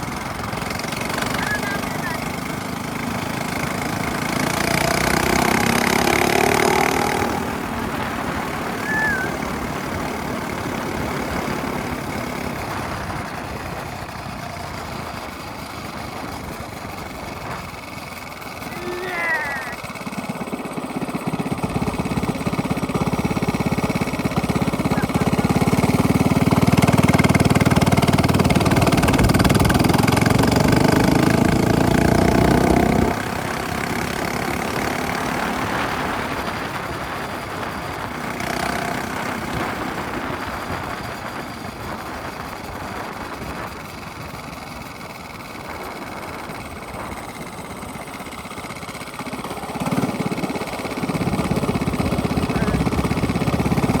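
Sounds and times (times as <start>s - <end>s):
small engine accelerating: 0.0s - 54.0s.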